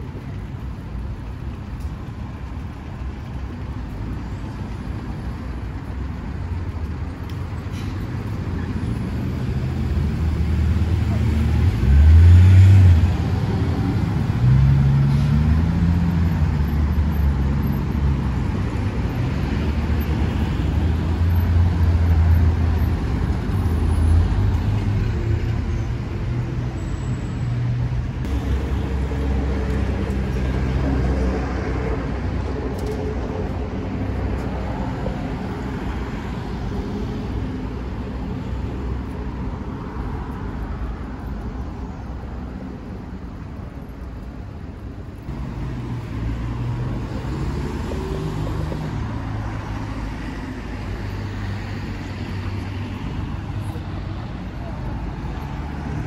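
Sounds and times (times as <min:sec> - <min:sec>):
vehicles passing by: 0:00.0 - 0:56.0.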